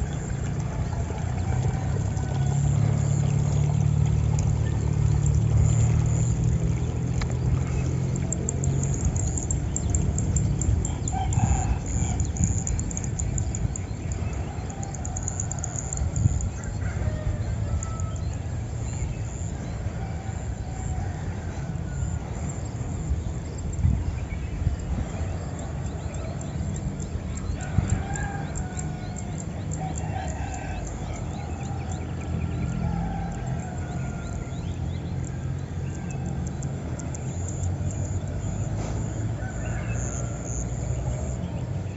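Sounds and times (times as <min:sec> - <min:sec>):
distant roosters crowing: 0:00.0 - 0:24.0, 0:24.6 - 0:41.9
steady low rumble: 0:00.0 - 0:41.9.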